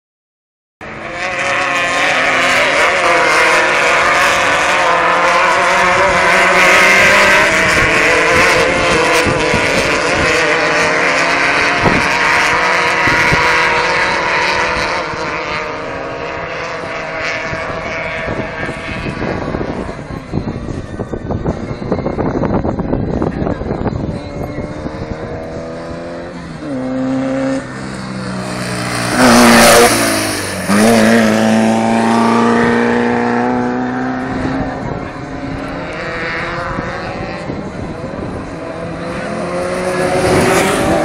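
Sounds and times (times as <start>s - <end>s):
race truck engines running hard: 0.9s - 41.0s.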